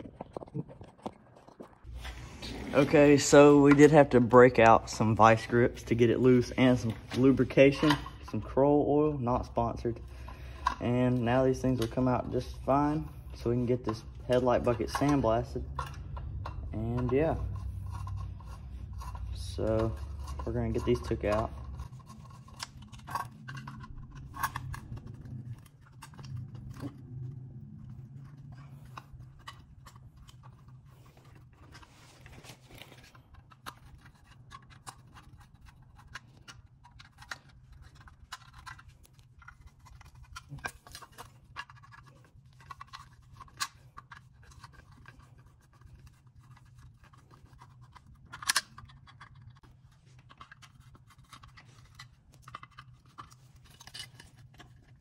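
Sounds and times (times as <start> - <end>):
metal clicks and scrapes: 0.0 - 55.0.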